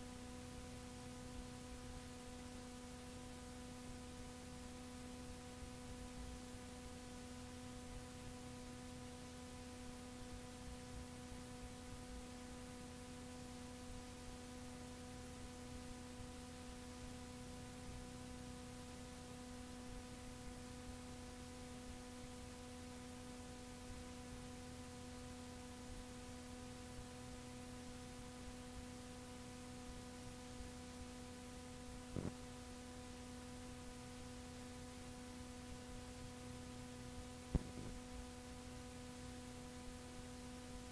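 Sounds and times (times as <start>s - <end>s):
low electrical hum: 0.0s - 40.9s
tape hiss: 0.0s - 40.9s.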